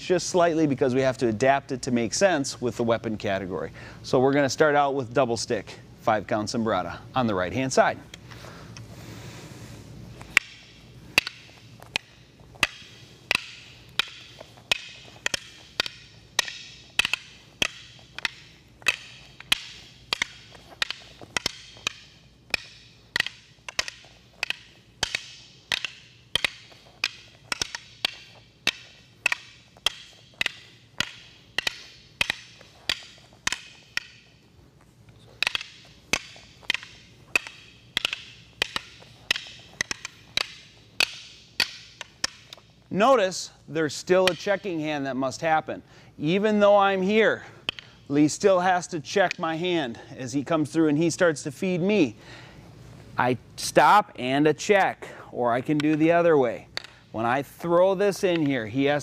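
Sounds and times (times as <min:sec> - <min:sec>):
rattan sticks clacking: 0:00.0 - 0:59.0.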